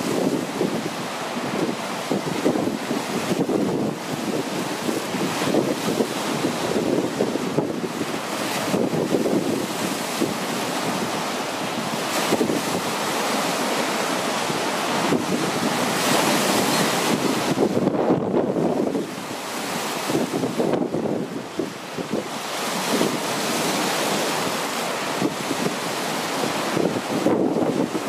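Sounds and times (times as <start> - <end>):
waves splashing on rocky shore: 0.0 - 28.0
wind buffeting microphone: 0.0 - 28.0.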